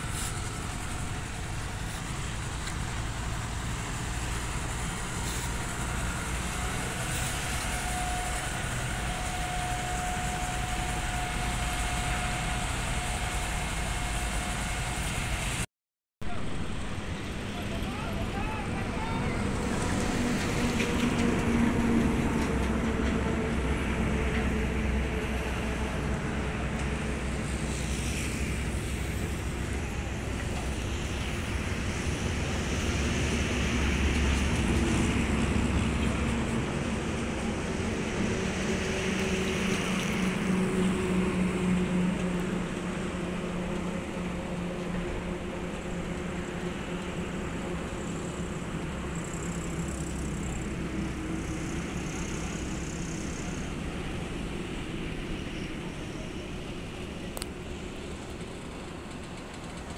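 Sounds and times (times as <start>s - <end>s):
heavy diesel truck engines: 0.0s - 59.9s.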